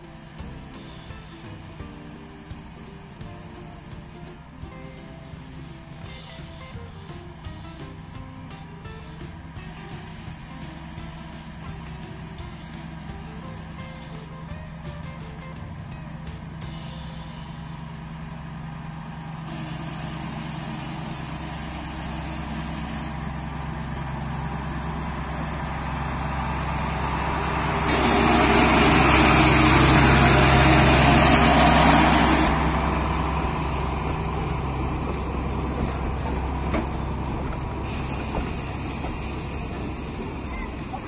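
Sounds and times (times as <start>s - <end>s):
diesel locomotive engine: 0.0s - 41.0s
train coaches rolling past: 0.0s - 41.0s.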